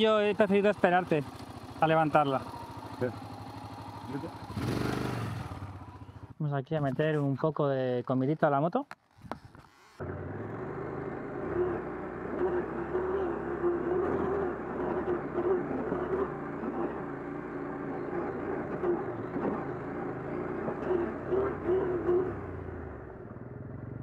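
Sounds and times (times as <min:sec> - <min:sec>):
motorcycle engine running: 0:00.0 - 0:06.4, 0:09.2 - 0:24.0.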